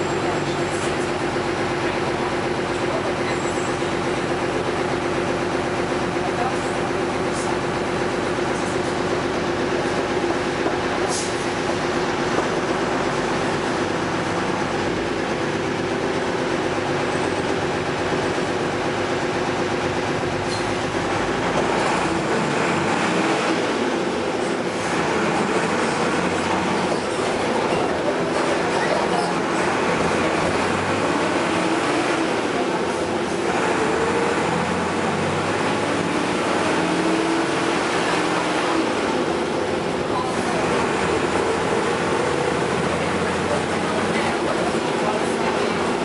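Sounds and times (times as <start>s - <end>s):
moving vehicle hum: 0.0s - 46.0s.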